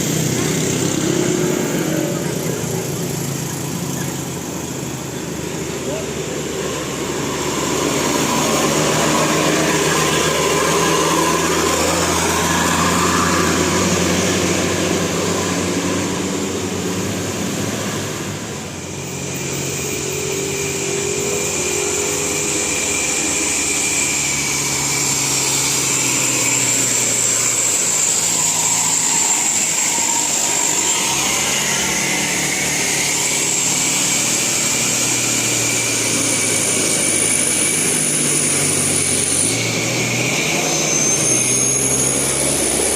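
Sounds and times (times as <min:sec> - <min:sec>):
vehicle engines running: 0:00.0 - 0:42.9.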